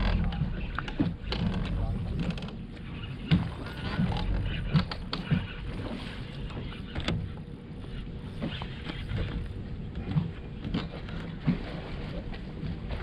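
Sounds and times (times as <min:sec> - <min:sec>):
small waves lapping against hull: 0:00.0 - 0:13.0.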